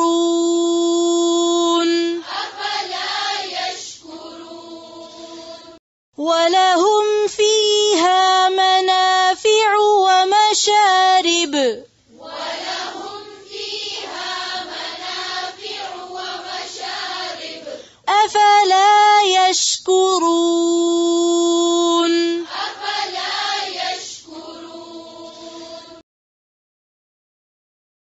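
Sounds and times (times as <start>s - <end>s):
woman chanting melodically: 0.0s - 26.0s.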